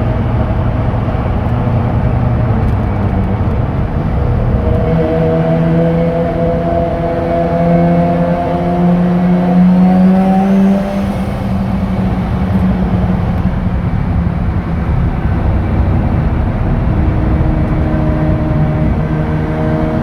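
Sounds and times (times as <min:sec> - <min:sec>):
rotary engine revving: 0:00.0 - 0:20.0.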